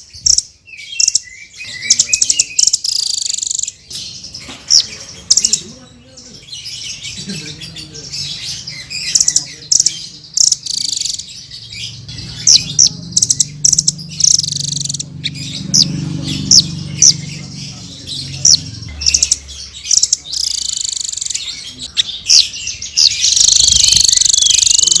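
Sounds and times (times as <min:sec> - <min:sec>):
parrot chirping and trilling: 0:00.0 - 0:25.0.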